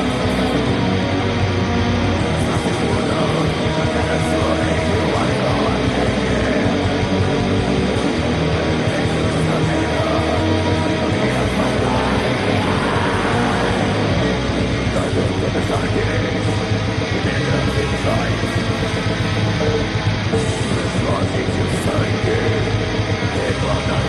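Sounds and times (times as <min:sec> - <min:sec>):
distorted electric guitar metal: 0:00.0 - 0:24.0.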